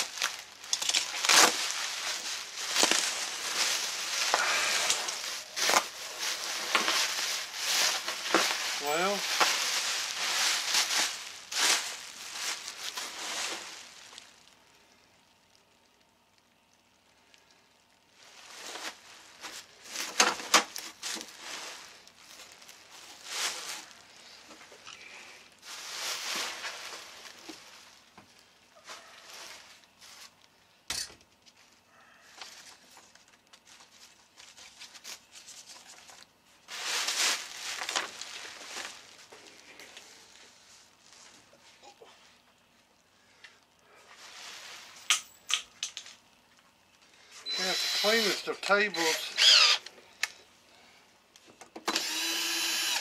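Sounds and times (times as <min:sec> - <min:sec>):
bubble wrap crinkling: 0:00.0 - 0:45.1.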